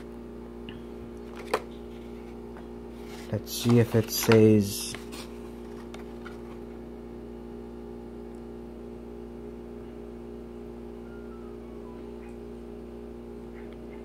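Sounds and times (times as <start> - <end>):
appliance hum: 0.0 - 14.0.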